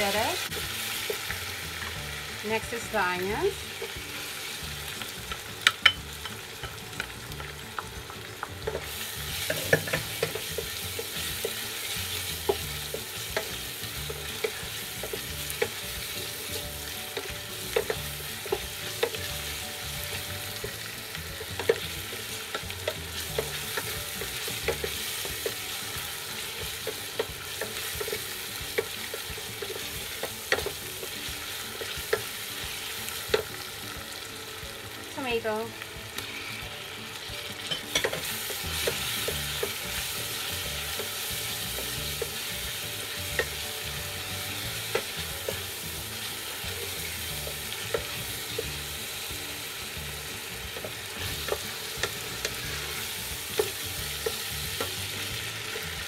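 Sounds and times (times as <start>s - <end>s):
onions sizzling in oil: 0.0s - 56.0s.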